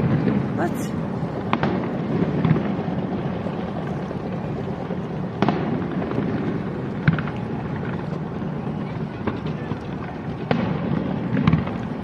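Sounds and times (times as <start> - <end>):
fireworks exploding: 0.0 - 3.8, 4.7 - 9.4, 10.0 - 11.9.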